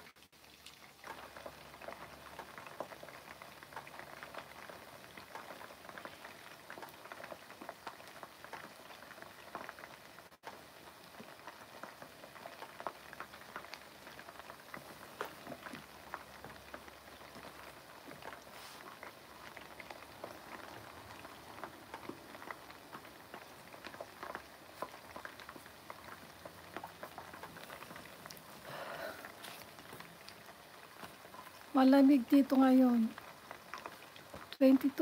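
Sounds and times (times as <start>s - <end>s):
chicken wings deep-frying in oil: 0.0s - 35.0s.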